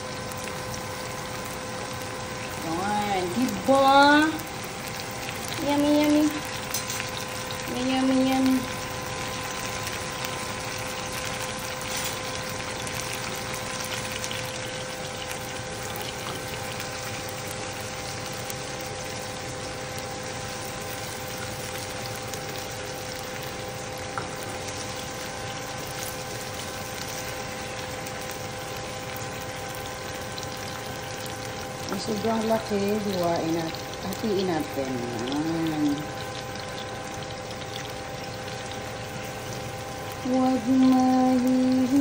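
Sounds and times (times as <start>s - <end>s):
fish sizzling in oil in a frying pan: 0.0s - 42.0s
steady hum: 0.0s - 42.0s.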